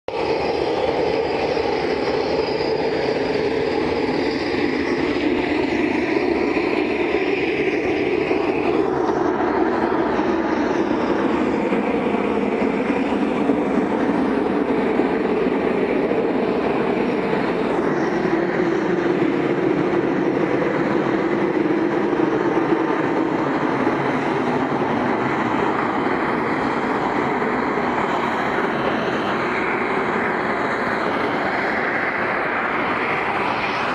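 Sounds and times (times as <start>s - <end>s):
high engine whine: 0.1s - 33.9s
jet engines running: 0.1s - 33.9s.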